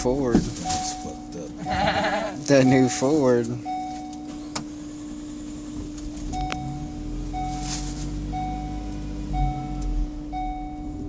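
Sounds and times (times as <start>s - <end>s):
steady hum: 0.0s - 11.0s
van warning chime beeping: 0.0s - 11.0s.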